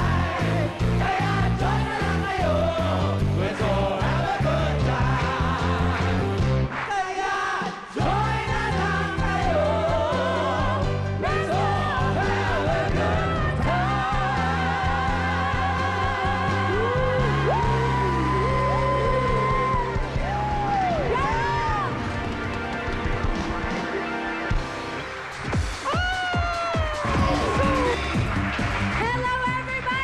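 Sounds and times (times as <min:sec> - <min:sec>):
pop music with singers: 0:00.0 - 0:30.0.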